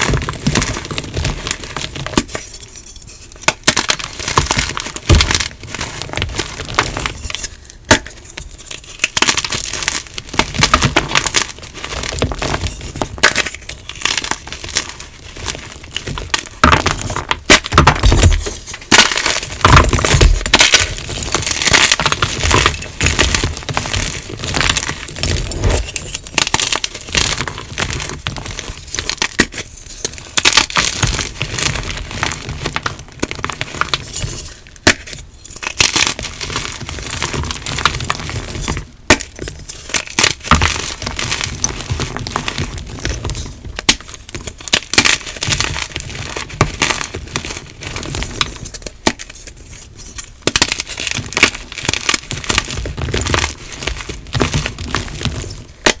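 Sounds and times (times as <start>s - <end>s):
chalk being crushed: 0.0s - 56.0s.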